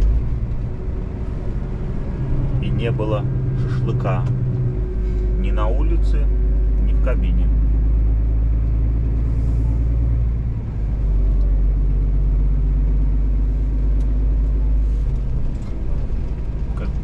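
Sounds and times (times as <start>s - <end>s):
diesel truck engine rumbling: 0.0s - 17.0s
road noise: 0.0s - 17.0s.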